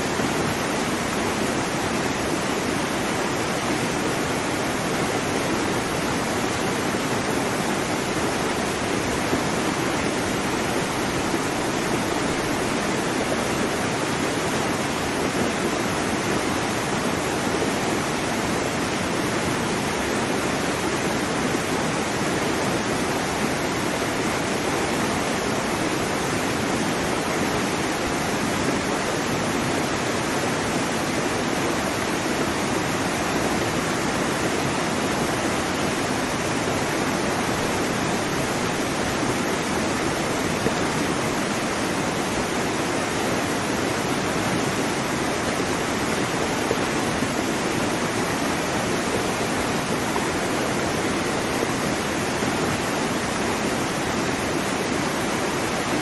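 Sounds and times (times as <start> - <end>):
waterfall splashing onto rocks: 0.0 - 56.0.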